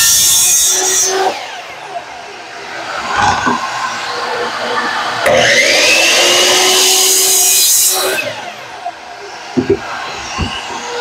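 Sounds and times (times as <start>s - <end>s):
miter saw cutting vinyl plank: 0.0s - 11.0s.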